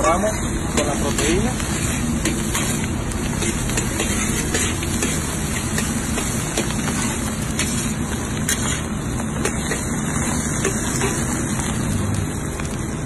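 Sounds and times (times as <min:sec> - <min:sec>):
metal spatula scraping pan: 0:00.0 - 0:11.2
burner flame rushing: 0:00.0 - 0:13.0
food sizzling in a wok: 0:00.0 - 0:13.0.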